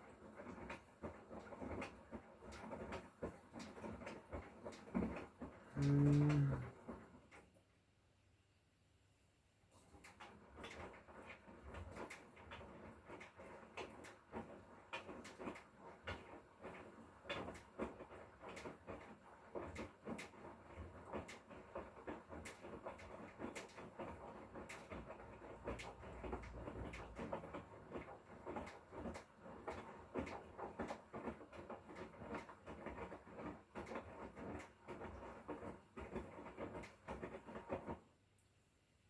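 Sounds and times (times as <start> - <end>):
washing machine running: 0.0 - 7.4, 9.9 - 38.2.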